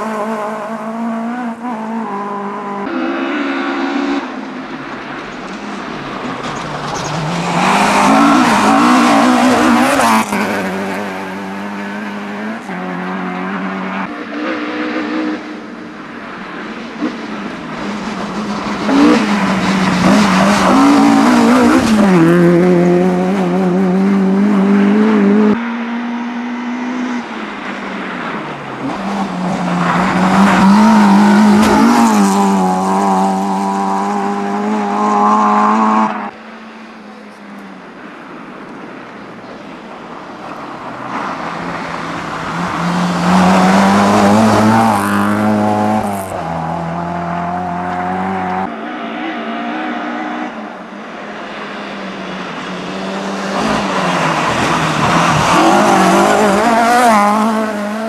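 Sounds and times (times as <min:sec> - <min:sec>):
rally car engines revving: 0:00.0 - 0:37.1, 0:38.4 - 0:58.0.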